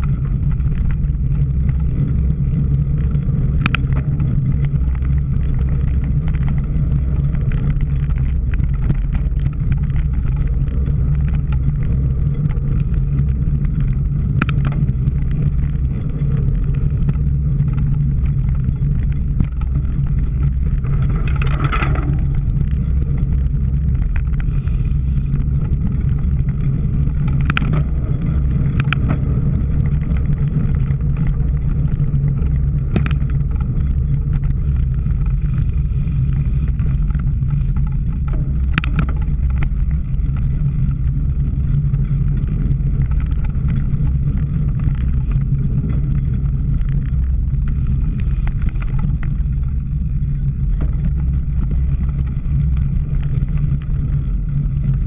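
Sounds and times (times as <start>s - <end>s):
bike rattle: 0.0s - 55.0s
wind and tyres rumbling: 0.0s - 55.0s.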